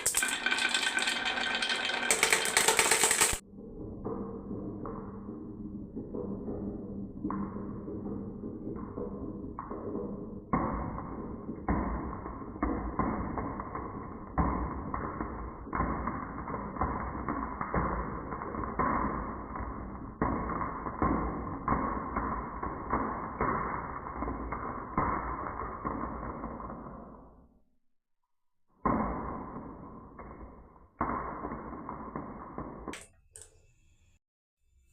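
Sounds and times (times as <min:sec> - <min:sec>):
marbles clacking on track: 0:00.0 - 0:03.4, 0:04.1 - 0:27.3, 0:29.0 - 0:33.6
marbles rolling on wooden track: 0:00.0 - 0:03.4, 0:04.0 - 0:27.3, 0:29.0 - 0:33.6.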